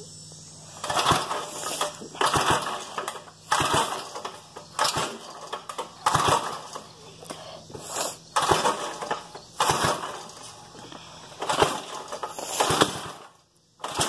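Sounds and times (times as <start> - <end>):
engine cranking with recoil starter: 0.6 - 14.0.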